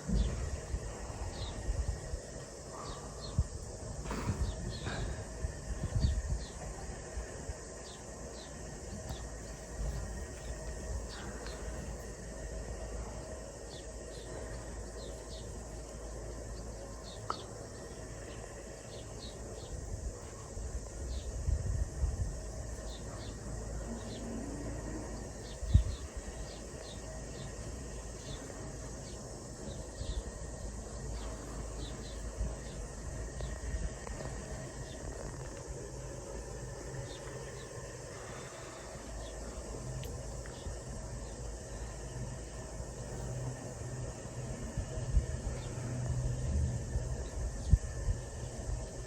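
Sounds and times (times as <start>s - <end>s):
high insect or bird chirps: 0.0s - 49.0s
low wind rumble: 0.0s - 49.0s.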